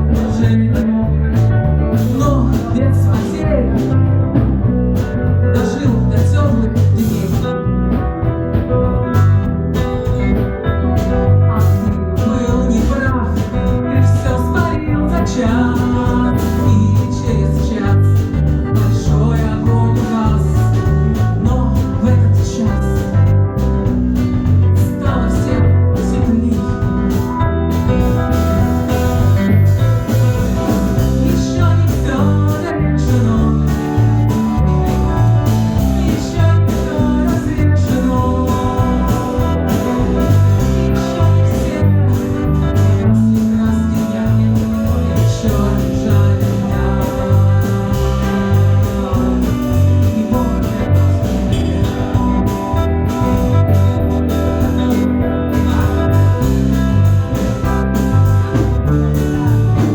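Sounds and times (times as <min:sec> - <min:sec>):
rock guitar: 0:00.0 - 0:59.9
steady drum beat: 0:00.0 - 0:59.9.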